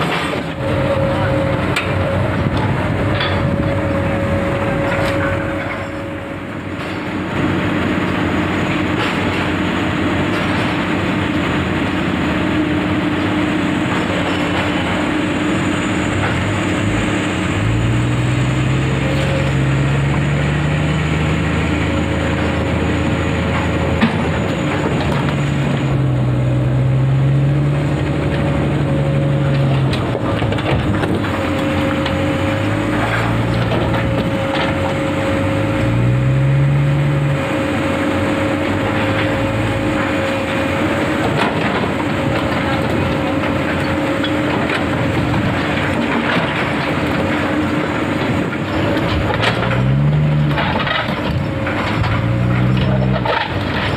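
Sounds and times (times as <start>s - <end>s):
excavator diesel engine revving: 0.0s - 53.9s.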